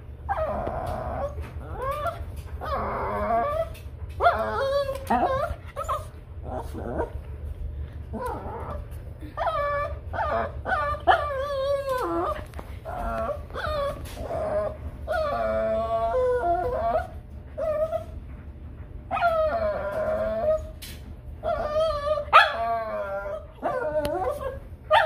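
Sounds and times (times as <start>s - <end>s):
dog whining and howling: 0.1s - 7.2s, 8.1s - 18.2s, 19.1s - 25.0s.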